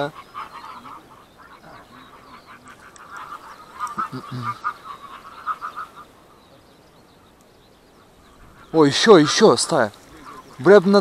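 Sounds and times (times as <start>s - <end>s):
geese honking in flight: 0.0s - 6.4s, 8.0s - 11.0s.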